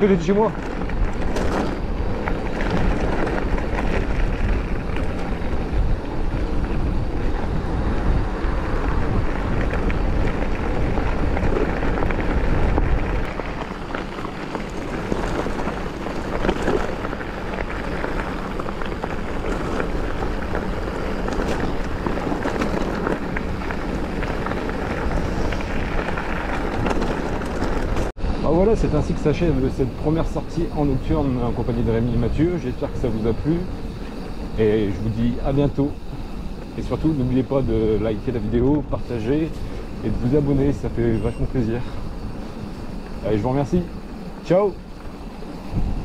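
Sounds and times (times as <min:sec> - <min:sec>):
bike clicks and rattles: 0:00.0 - 0:28.1, 0:29.6 - 0:46.0
bike tyre noise: 0:00.0 - 0:46.0
wind buffeting microphone: 0:00.0 - 0:46.0.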